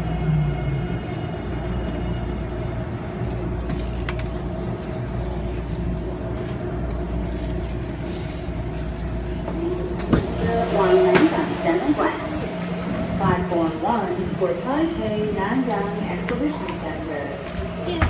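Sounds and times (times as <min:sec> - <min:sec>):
train equipment rumble and hum: 0:00.0 - 0:18.0.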